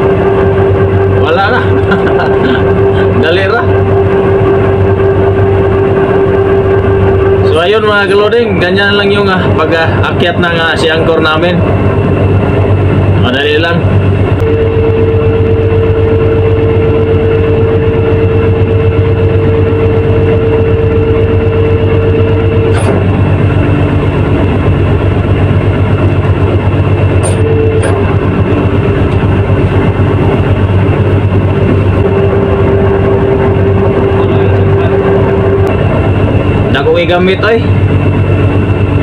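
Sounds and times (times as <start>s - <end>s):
boat engine low drone: 0.0s - 39.0s
steady engine whine: 0.0s - 39.0s.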